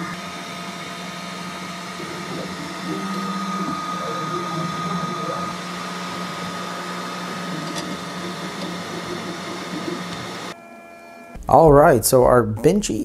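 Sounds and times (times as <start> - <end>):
stepper motors whining: 0.0 - 11.4
printer fan hum: 0.0 - 12.8.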